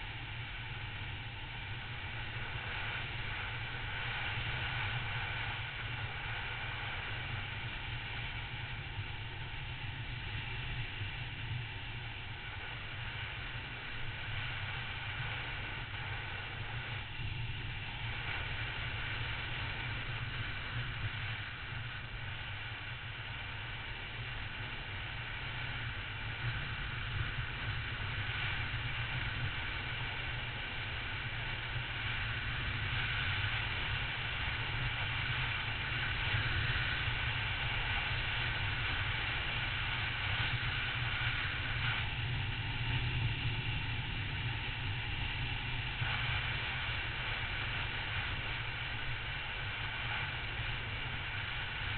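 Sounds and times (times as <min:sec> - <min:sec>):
wind rushing on microphone: 0:10.1 - 0:51.9.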